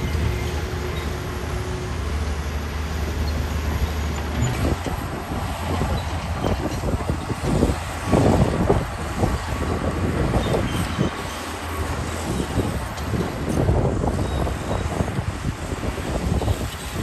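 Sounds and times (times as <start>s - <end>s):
bulldozer diesel engine: 0.0s - 17.0s
steel tracks clanking and squealing: 0.0s - 17.0s.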